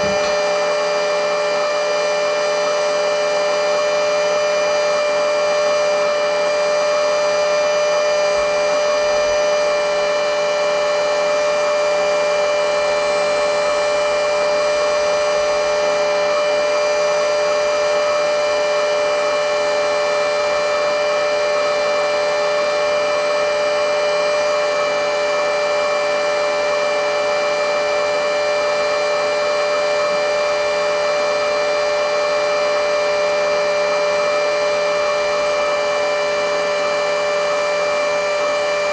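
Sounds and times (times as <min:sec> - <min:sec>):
handheld vacuum motor whine: 0:00.0 - 0:38.9.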